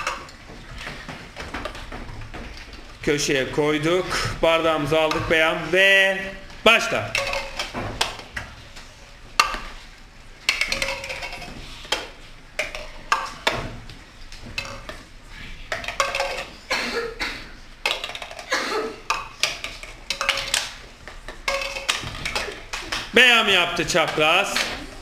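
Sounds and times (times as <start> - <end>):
plastic cups tapping on table: 0.0 - 25.0.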